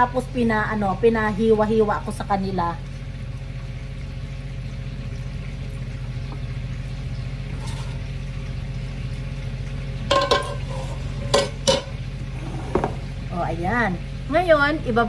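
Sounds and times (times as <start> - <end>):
steady low hum: 0.0 - 15.0
water sloshing and dripping: 0.8 - 13.3.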